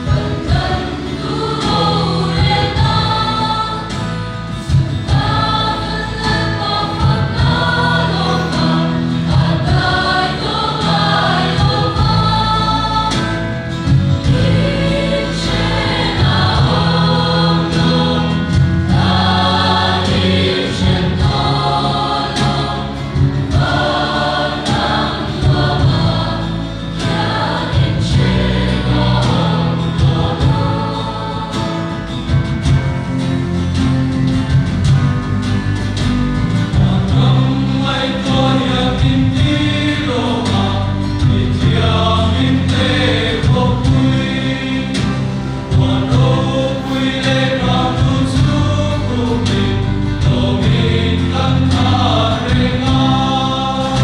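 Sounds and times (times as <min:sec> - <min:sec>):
choir singing: 0:00.0 - 0:54.0
instrumental accompaniment: 0:00.0 - 0:54.0
steady bass notes: 0:00.0 - 0:54.0.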